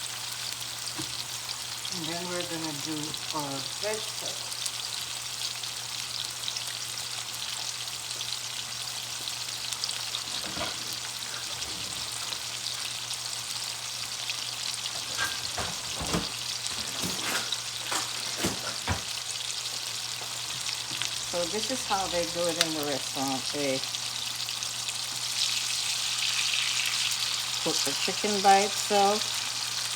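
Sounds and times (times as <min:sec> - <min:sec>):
chicken sizzling in a pan: 0:00.0 - 0:29.9.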